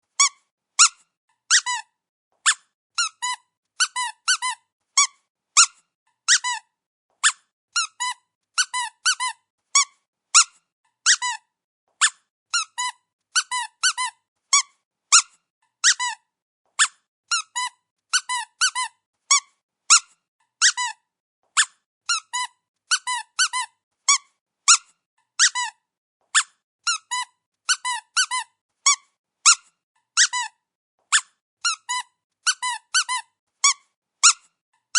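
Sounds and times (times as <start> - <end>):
squeaky dog toy squeaking: 0.1 - 34.9.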